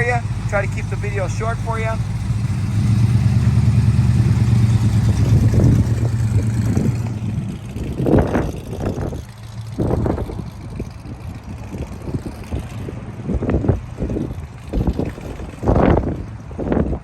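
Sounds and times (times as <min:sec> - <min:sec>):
car engine low drone: 0:00.0 - 0:17.0.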